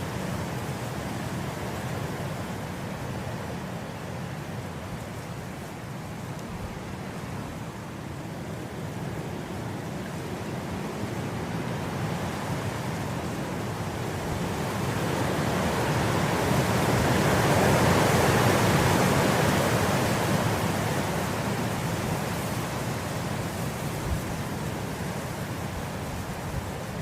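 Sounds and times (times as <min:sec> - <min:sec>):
wind blowing through grass: 0:00.0 - 0:27.0.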